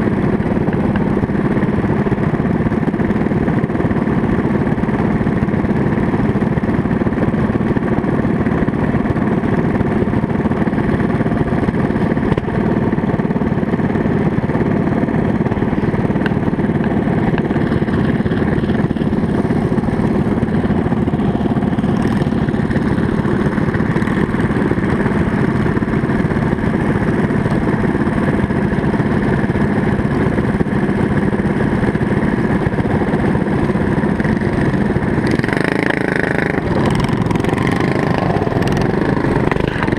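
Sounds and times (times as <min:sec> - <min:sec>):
small engines idling: 0:00.0 - 0:39.9.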